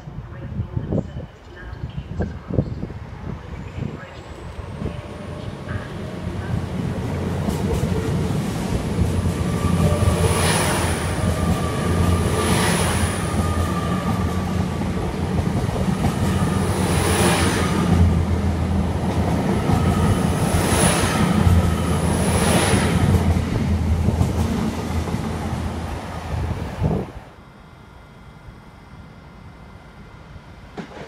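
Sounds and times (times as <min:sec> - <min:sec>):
train wheels rumbling on rail: 0:00.8 - 0:27.2, 0:30.6 - 0:31.0.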